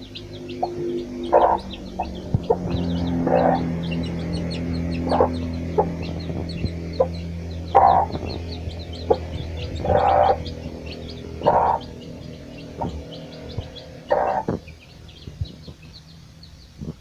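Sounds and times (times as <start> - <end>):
hen clucking: 0.0 - 16.1
chicks peeping: 0.0 - 17.0.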